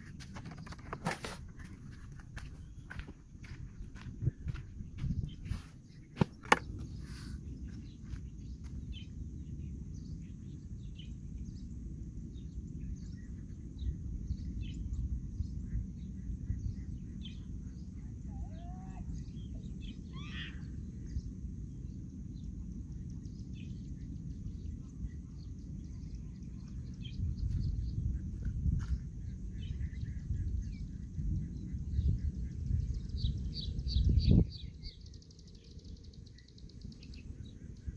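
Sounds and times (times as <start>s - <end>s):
small birds chirping: 0.0s - 37.9s
long curving bird calls: 5.3s - 28.4s, 29.0s - 37.9s.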